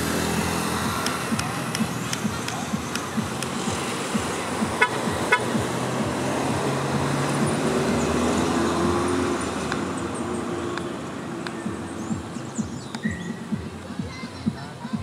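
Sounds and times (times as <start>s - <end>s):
road traffic noise: 0.0s - 15.0s
vehicle engine hum: 0.0s - 15.0s.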